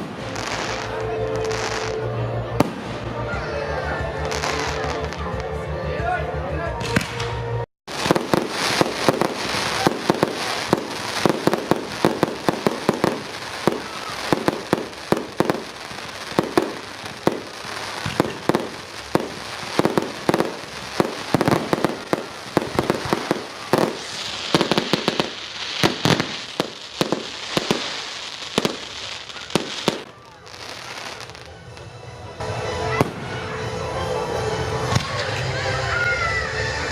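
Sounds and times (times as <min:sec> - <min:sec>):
fireworks exploding: 0:00.0 - 0:05.5, 0:06.8 - 0:31.9, 0:32.5 - 0:33.6
hissing crackle of fireworks: 0:00.0 - 0:05.5, 0:06.8 - 0:36.9.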